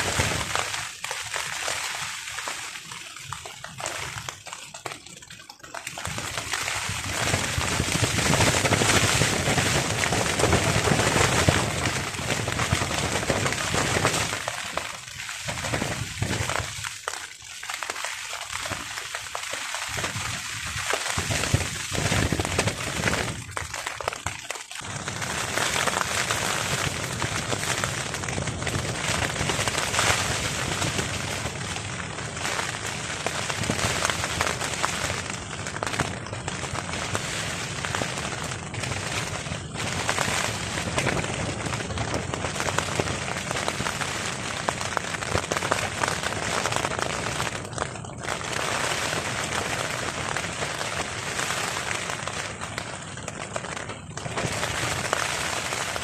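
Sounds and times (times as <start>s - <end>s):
rain pelting a tarp: 0.0s - 56.0s.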